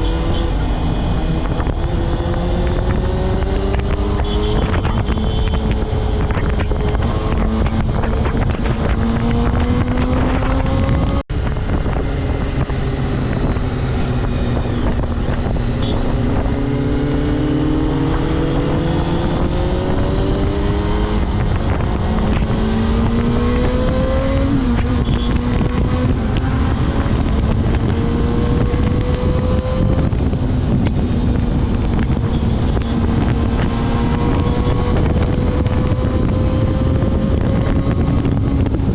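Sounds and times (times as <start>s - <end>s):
motorcycle engine accelerating: 0.0s - 38.9s
wind noise on microphone: 0.0s - 38.9s.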